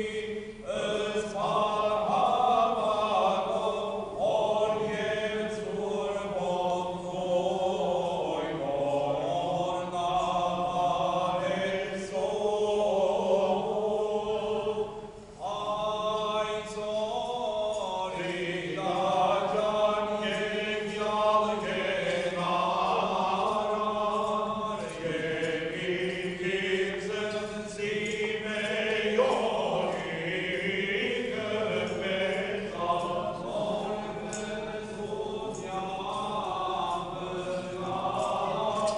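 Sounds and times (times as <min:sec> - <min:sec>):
men chanting together: 0:00.0 - 0:38.9.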